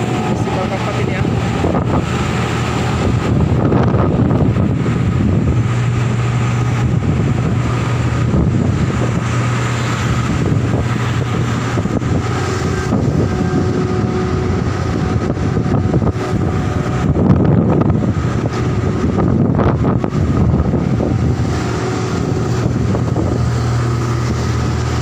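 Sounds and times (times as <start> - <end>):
diesel machinery humming: 0.0 - 25.0
wind noise on microphone: 0.0 - 25.0.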